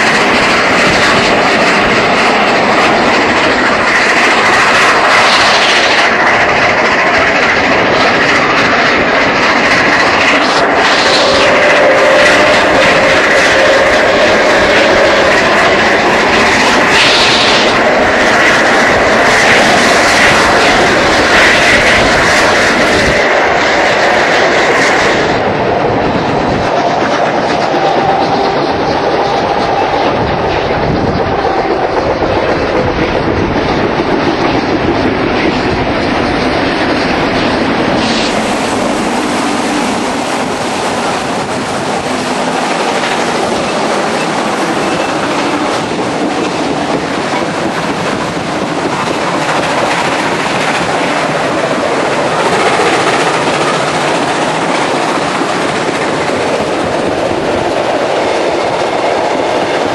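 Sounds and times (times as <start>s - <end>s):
train carriage rumble: 0.0s - 59.9s.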